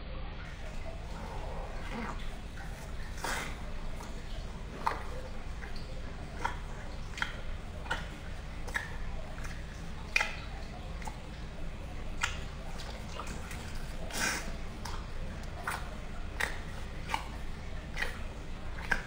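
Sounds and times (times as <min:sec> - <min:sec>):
steady low hum: 0:00.0 - 0:19.0
wet chewing and lip-smacking: 0:00.4 - 0:19.0
wet slurp: 0:00.4 - 0:19.0.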